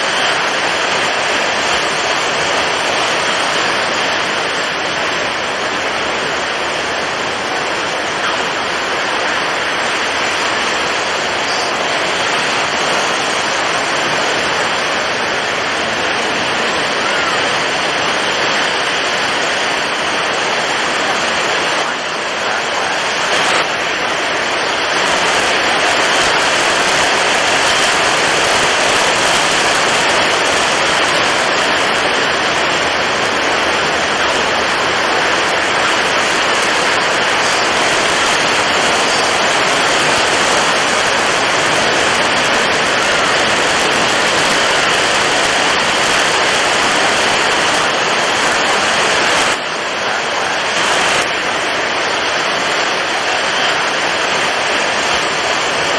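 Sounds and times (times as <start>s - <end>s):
heavy waves: 0.0s - 55.9s
strong wind: 0.0s - 55.9s.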